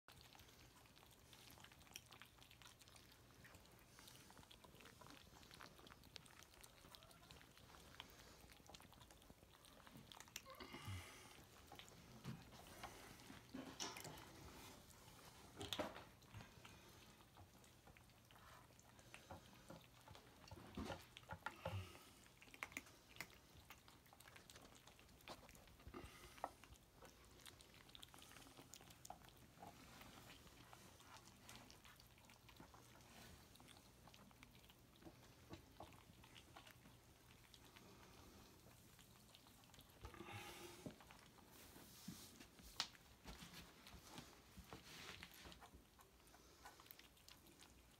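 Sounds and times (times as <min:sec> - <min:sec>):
kittens crunching dry food: 0:00.1 - 0:47.9.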